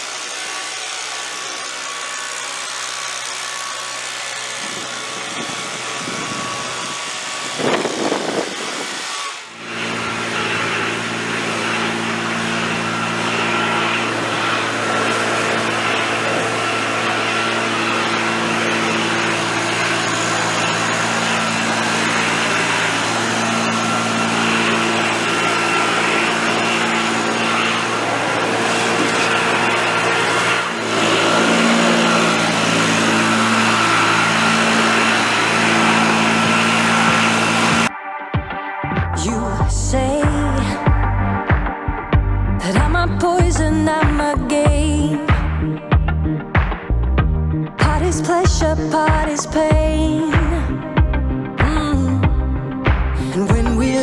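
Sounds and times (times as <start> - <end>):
small gasoline engine running: 0.0 - 37.9, 47.8 - 54.0.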